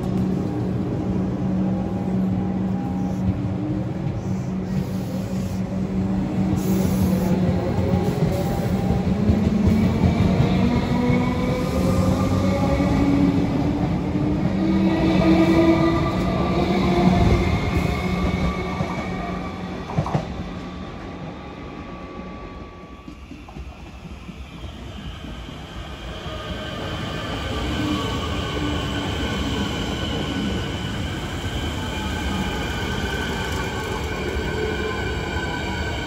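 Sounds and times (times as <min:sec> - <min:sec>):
train passing close by: 0:00.0 - 0:36.0.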